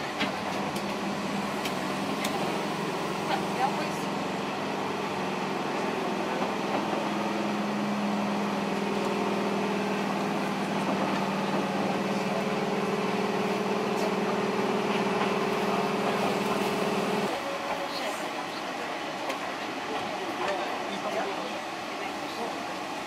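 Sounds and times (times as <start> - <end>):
train electrical hum: 0.0 - 23.0
train running noise: 0.0 - 23.0.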